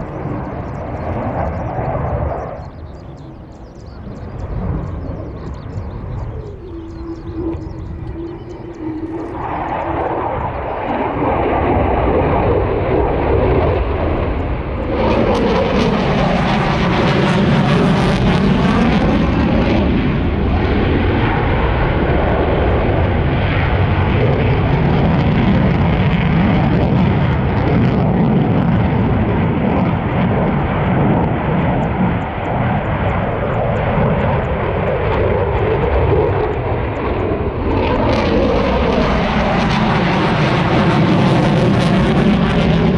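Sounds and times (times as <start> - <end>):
military aircraft flying past: 0.0 - 42.9.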